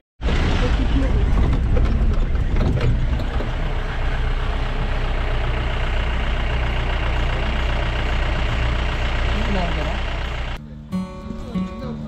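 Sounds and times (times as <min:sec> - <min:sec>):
vehicle engine rumbling: 0:00.2 - 0:12.0.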